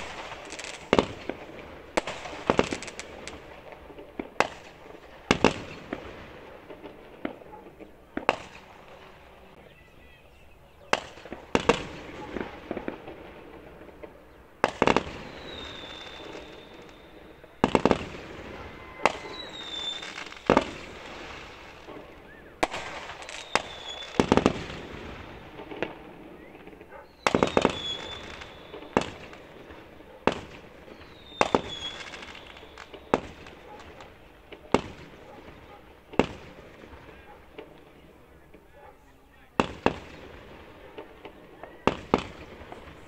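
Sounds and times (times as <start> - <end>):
fireworks bursting with echo: 0.0 - 9.8, 10.7 - 43.0.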